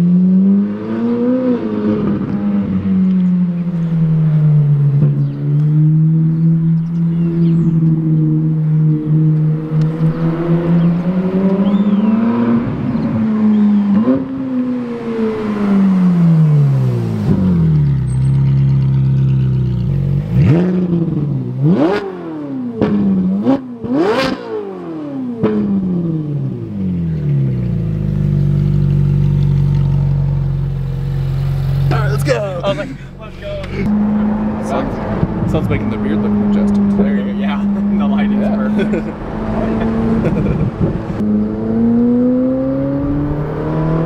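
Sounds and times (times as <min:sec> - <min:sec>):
sports car engine accelerating: 0:00.0 - 0:44.0.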